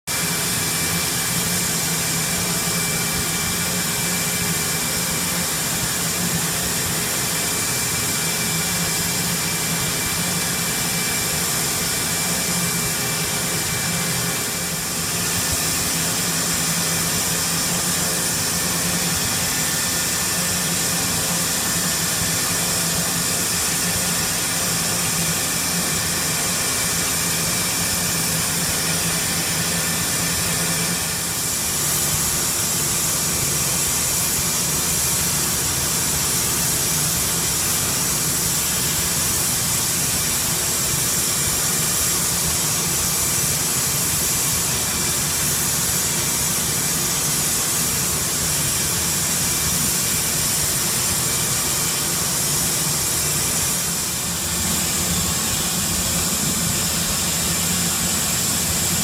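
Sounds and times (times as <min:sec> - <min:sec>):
grinding machine whirring: 0:00.1 - 0:59.0.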